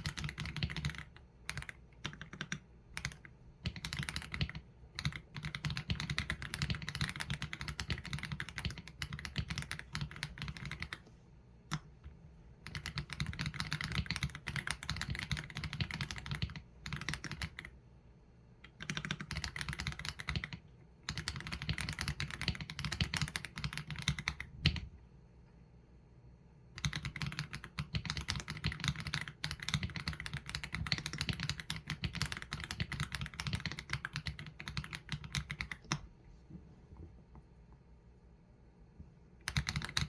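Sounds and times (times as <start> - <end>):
mechanical keyboard typing: 0.0 - 11.0, 11.7 - 17.8, 18.6 - 24.9, 26.8 - 36.0, 39.4 - 40.0.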